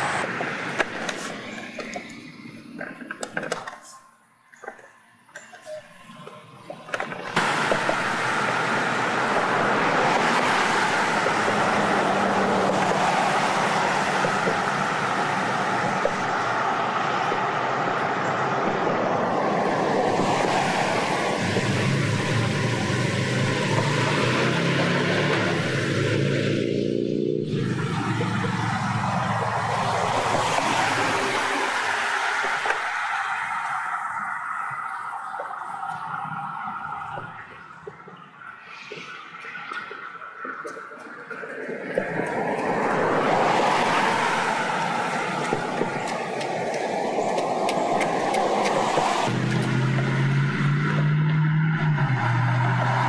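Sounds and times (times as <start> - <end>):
road traffic noise: 0.0 - 53.0
car passing close: 7.4 - 38.2, 38.8 - 53.0.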